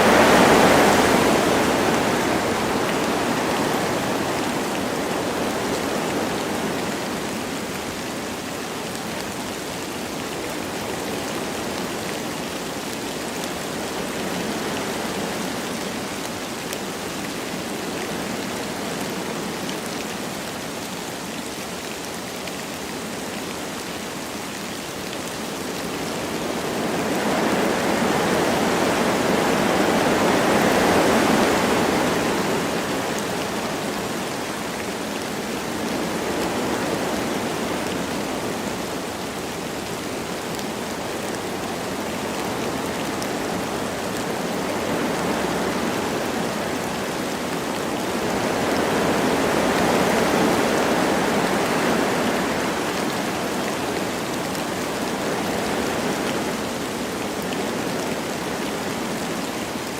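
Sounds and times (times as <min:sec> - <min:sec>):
light rain falling: 0:00.0 - 0:59.9
wind through trees: 0:00.0 - 0:59.9.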